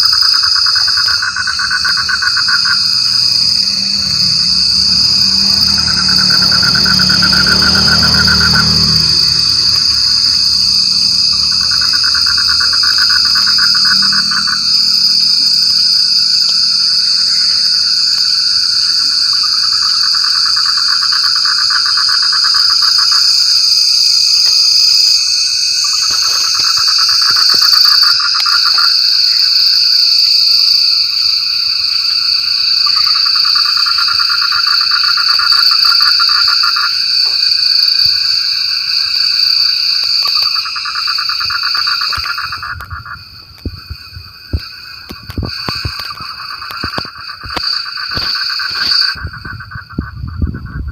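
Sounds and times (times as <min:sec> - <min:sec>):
frogs calling in pulsed trills: 0:00.0 - 0:50.9
high-pitched insect chorus: 0:00.0 - 0:50.9.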